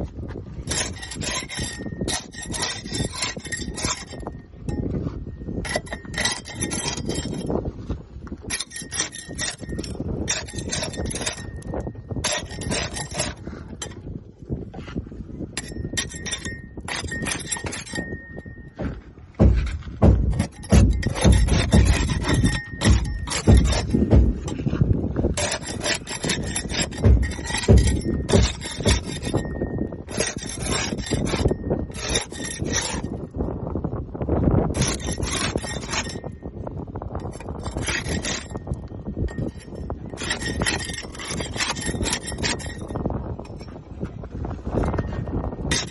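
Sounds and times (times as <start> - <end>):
scraping barnacles off hull: 0.0 - 33.8, 34.5 - 45.9.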